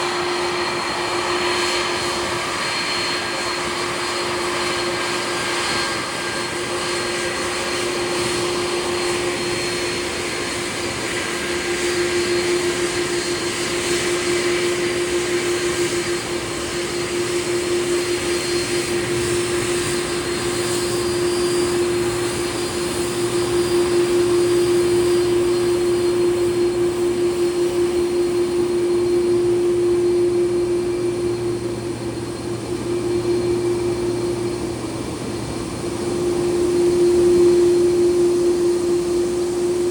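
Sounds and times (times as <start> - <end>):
constant hum: 0.0 - 39.9
jet engines running: 0.0 - 39.9.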